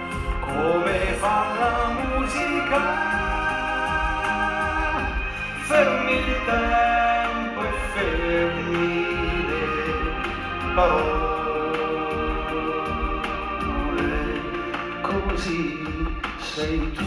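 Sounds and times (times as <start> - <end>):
instrumental accompaniment: 0.0 - 17.0
man singing long notes: 0.0 - 17.0.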